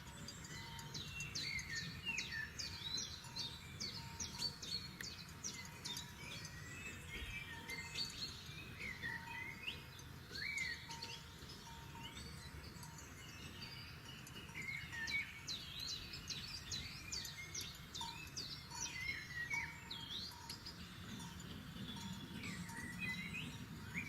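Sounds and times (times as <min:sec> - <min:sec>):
birds singing and chirping: 0:00.0 - 0:24.0.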